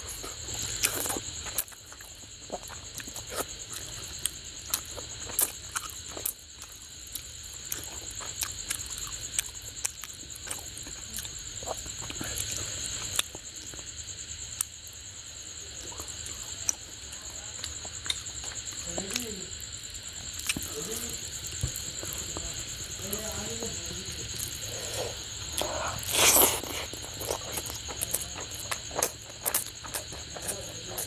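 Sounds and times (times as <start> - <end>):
wet chewing clicks and smacks: 0.0 - 14.8, 15.9 - 22.5, 25.2 - 31.0
steady high-pitched whine: 0.0 - 31.0.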